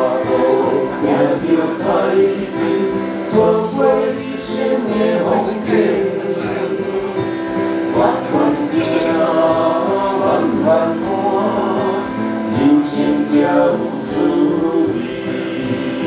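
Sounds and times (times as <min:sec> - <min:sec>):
person singing: 0:00.0 - 0:16.0
street band playing: 0:00.0 - 0:16.0.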